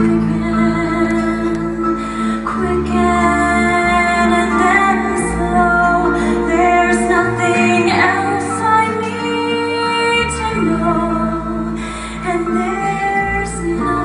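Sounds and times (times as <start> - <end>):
instrumental accompaniment: 0.0 - 14.0
woman singing a slow ballad: 0.0 - 14.0.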